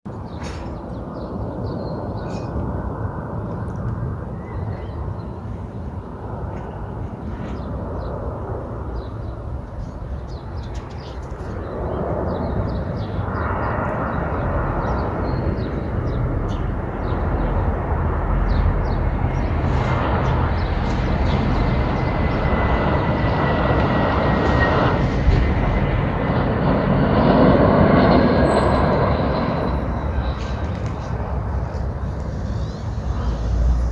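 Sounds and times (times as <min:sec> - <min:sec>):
high jet engine whine: 0:00.1 - 0:33.9
jet airliner rumble: 0:00.1 - 0:33.9.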